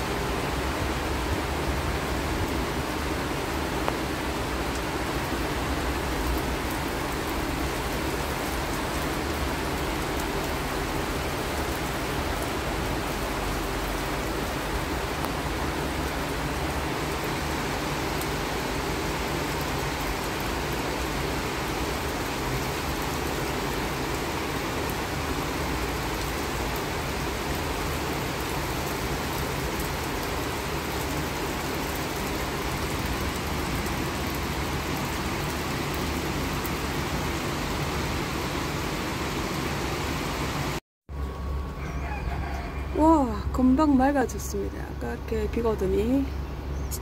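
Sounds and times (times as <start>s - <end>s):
heavy rain hissing: 0.0s - 40.8s.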